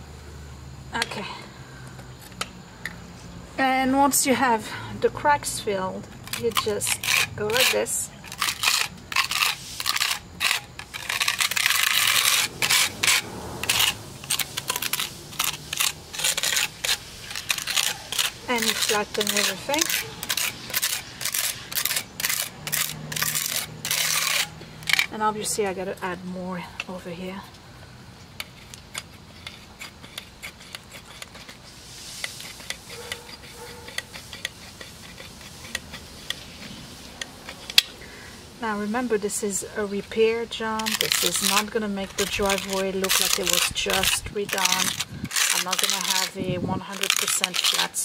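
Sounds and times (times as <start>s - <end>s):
putty knife scraping asphalt: 2.2s - 27.4s, 28.2s - 48.0s.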